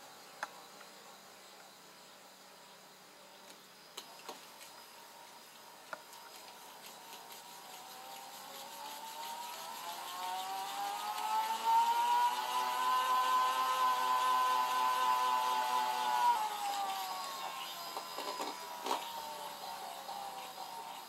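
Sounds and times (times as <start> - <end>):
gyroscope whirring whine: 4.0 - 21.0.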